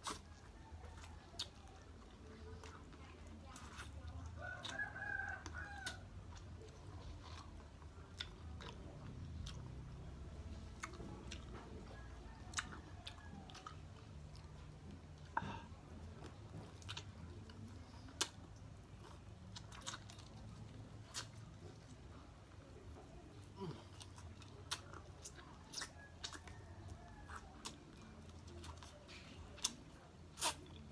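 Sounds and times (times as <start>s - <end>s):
chewing and biting meat: 0.0s - 30.9s.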